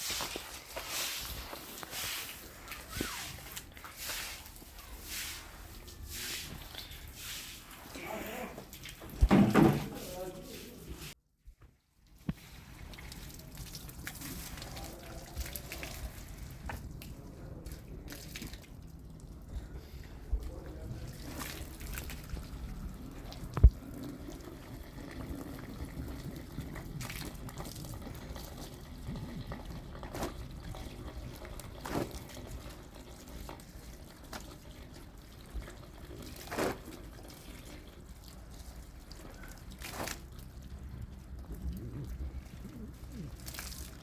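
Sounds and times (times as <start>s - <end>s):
water dripping and splashing: 0.0s - 11.1s, 11.7s - 44.0s.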